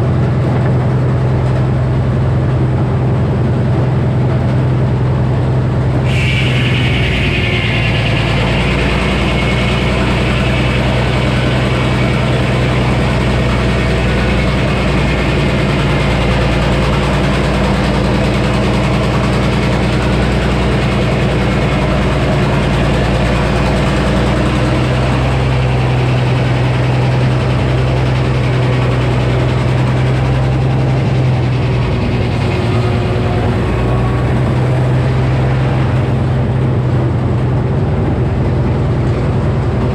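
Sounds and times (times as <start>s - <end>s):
high-pitched whine: 0.0s - 39.9s
circular saw running: 5.0s - 37.0s.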